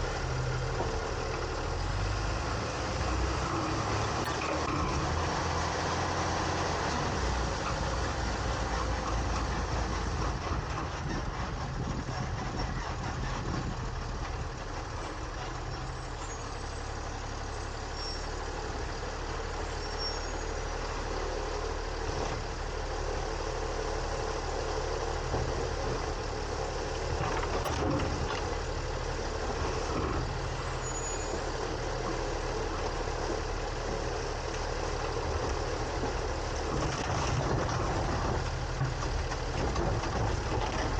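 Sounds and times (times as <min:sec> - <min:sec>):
garbage truck engine hum: 0:00.0 - 0:40.9.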